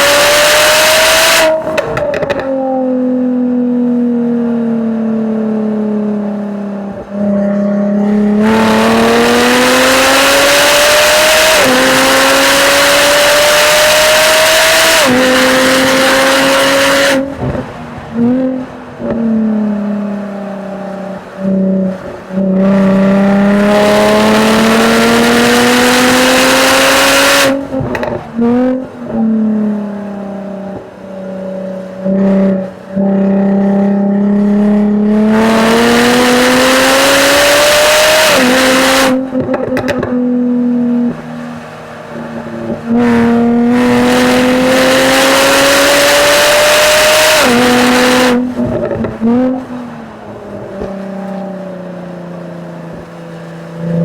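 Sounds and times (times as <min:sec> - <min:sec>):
car exhaust under hard driving: 0:00.0 - 0:54.0.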